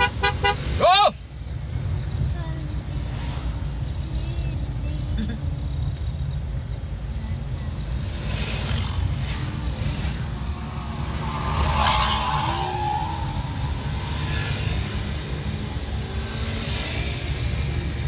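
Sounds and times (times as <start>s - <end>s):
car engine rumbling: 0.0s - 18.0s
tyres on wet road: 0.0s - 18.0s.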